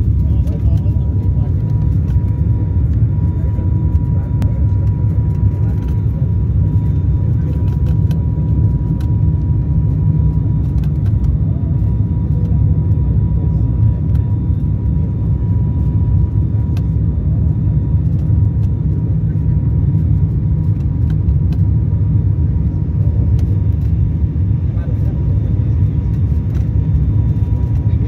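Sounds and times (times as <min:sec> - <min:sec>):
airliner cabin engine drone: 0:00.0 - 0:28.0.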